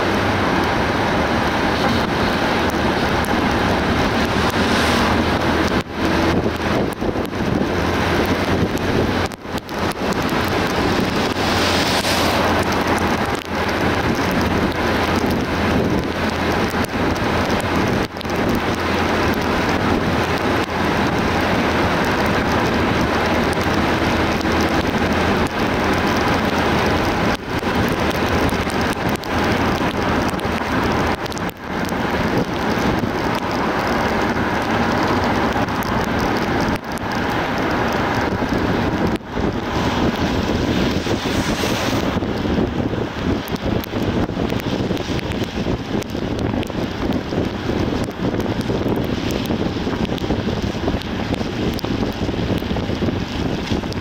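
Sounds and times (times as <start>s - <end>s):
tyre and road noise: 0.0s - 54.0s.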